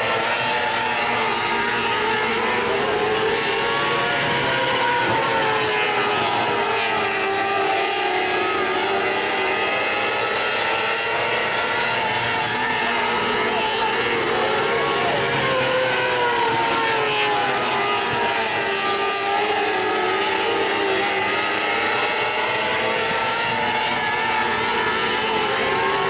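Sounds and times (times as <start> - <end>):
sprint car engines racing: 0.0 - 26.0.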